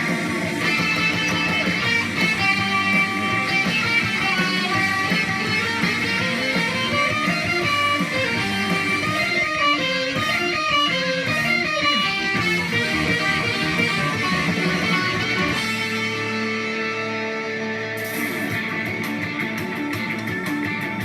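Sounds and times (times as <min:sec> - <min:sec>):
electric guitar solo: 0:00.0 - 0:21.0.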